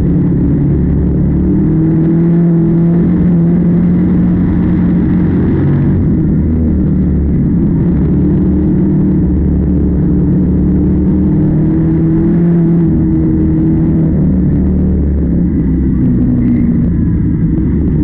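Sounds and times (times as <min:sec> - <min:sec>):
harvester engine low hum: 0:00.0 - 0:18.0.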